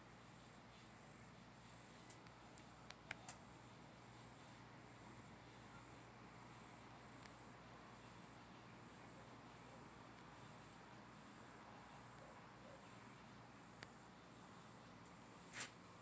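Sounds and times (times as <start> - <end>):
faint cricket chirping: 0.0 - 16.0.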